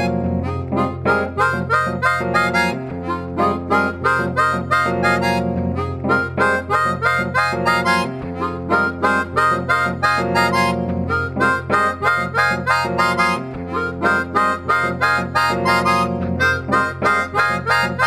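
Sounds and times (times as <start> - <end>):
chromatic harmonica melody: 0.0 - 18.0.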